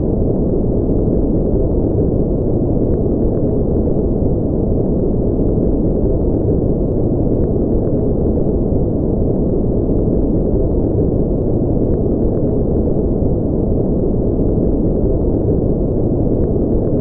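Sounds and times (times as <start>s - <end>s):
deep muffled brown noise: 0.0s - 17.0s.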